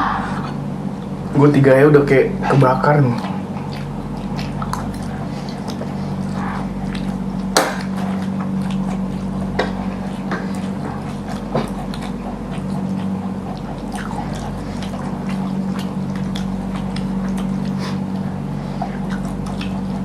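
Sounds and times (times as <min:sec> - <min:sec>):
steady low hum: 0:00.0 - 0:20.0
wet chewing: 0:00.0 - 0:20.0.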